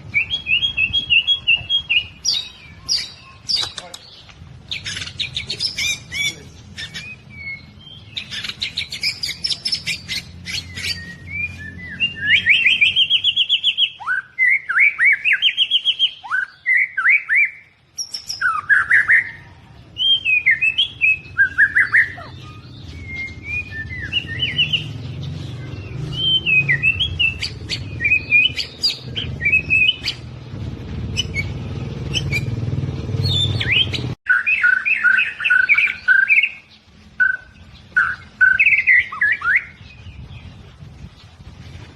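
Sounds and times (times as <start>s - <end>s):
bird singing varied song: 0.0s - 41.9s.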